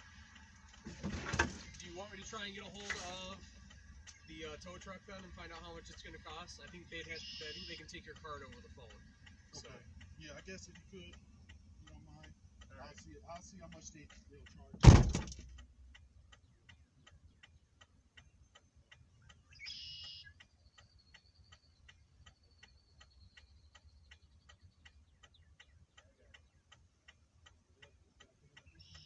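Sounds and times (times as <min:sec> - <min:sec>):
hazard flasher relay ticking: 0:00.0 - 0:29.0.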